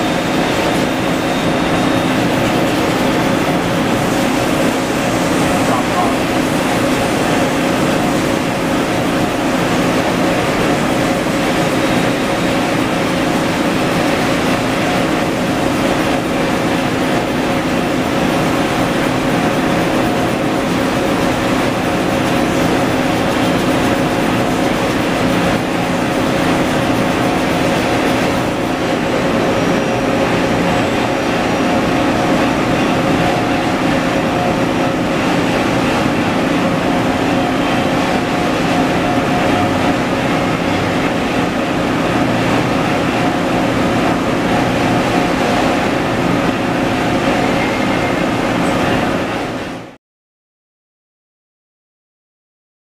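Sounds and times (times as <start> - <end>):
industrial machinery drone: 0.0 - 50.0.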